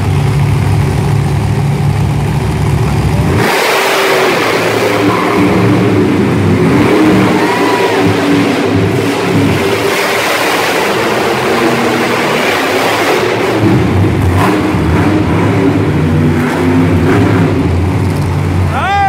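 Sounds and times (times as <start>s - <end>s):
truck engine revving: 0.0s - 18.9s.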